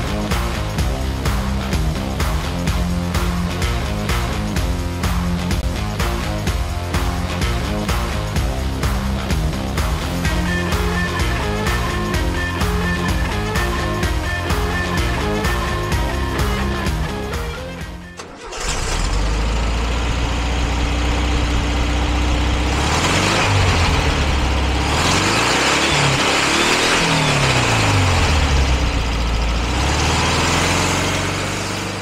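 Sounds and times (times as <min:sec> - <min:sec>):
air-cooled engine starting and revving: 0:00.0 - 0:32.0.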